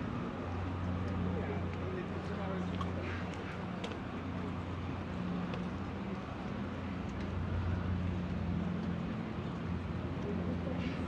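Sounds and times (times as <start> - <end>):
low city hum: 0.0 - 11.0.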